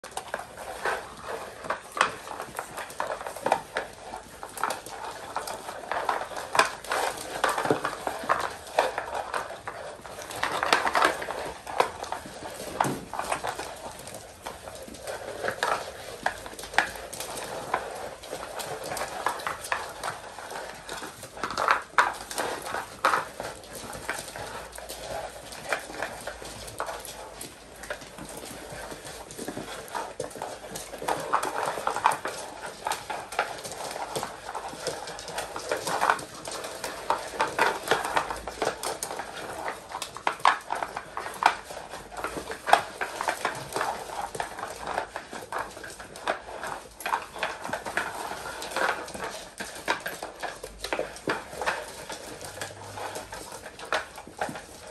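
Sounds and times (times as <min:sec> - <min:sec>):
bowls and paws clicking on floor: 0:00.0 - 0:54.9
puppies lapping and chewing: 0:00.0 - 0:54.9.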